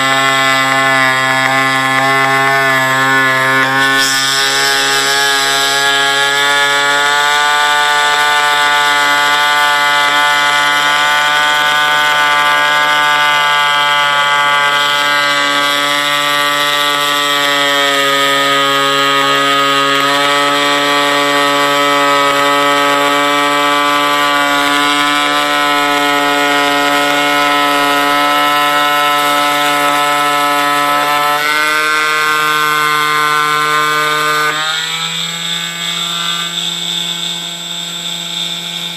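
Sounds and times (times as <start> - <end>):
foam cutter buzzing: 0.0 - 38.9.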